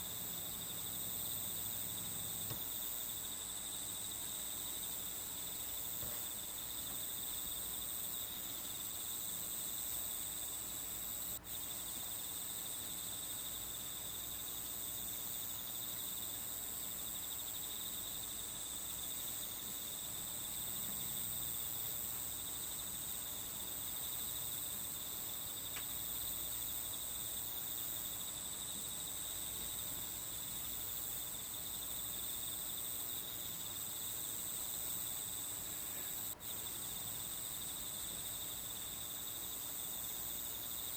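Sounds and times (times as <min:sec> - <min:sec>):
crickets and insects chirring: 0:00.0 - 0:40.9.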